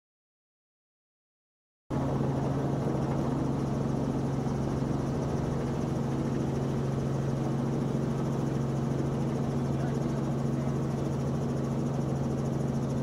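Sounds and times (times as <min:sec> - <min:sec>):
helicopter rotor and engine drone: 0:01.9 - 0:13.0.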